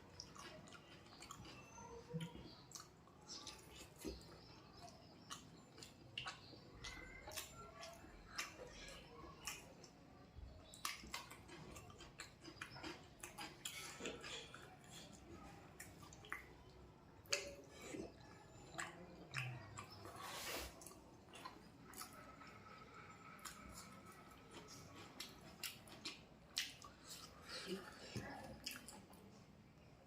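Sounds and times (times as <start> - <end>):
person chewing with wet squelches: 0.0 - 30.0.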